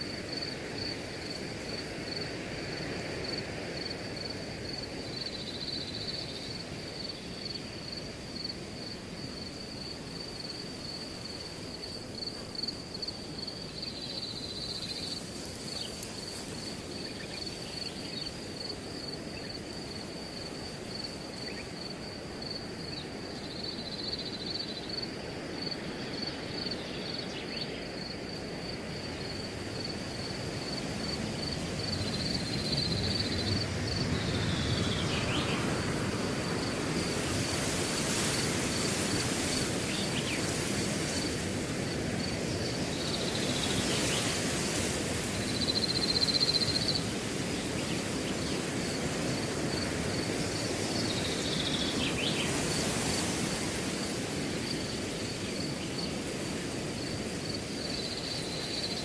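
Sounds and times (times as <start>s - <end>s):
cricket chirping: 0.0s - 59.0s
wind blowing through grass: 0.0s - 59.0s.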